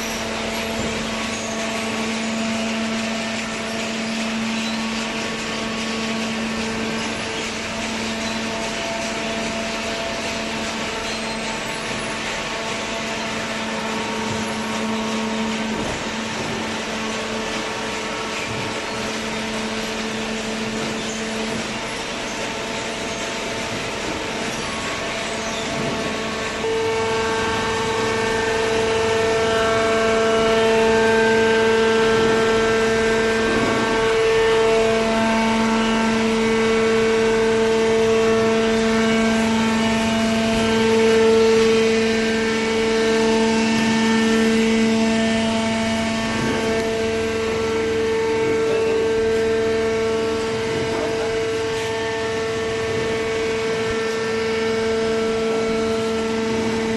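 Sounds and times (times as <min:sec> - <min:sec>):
baler machine whining: 0:00.0 - 0:56.9.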